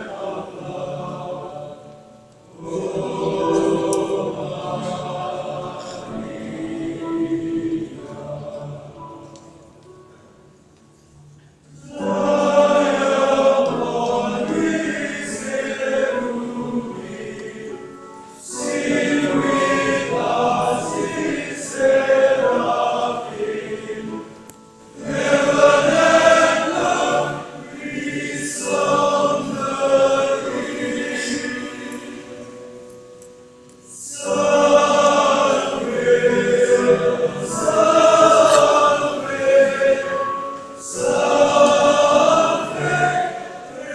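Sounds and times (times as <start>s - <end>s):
choir singing a hymn: 0.0s - 10.5s, 11.7s - 43.9s.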